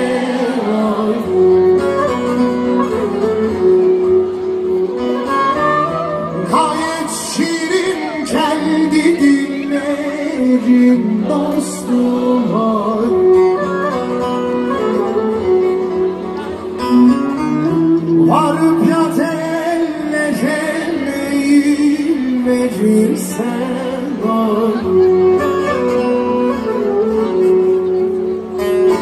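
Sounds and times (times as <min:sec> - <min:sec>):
live band with singing: 0:00.0 - 0:29.0.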